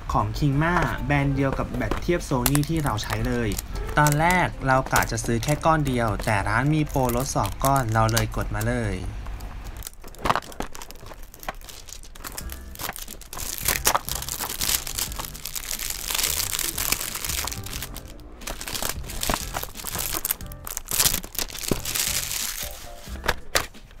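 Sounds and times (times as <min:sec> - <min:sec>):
light background music: 0:00.0 - 0:09.2, 0:12.2 - 0:24.0
plastic shrink wrap crinkling: 0:00.6 - 0:24.0.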